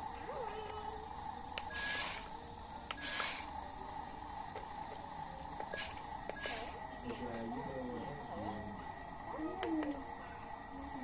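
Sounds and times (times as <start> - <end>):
toy truck motor whirring: 0.0 - 10.1.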